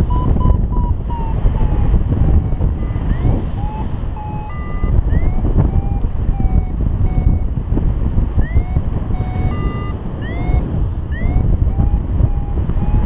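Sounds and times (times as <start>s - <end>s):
variometer beeping: 0.0s - 13.0s
wind noise on microphone: 0.0s - 13.0s.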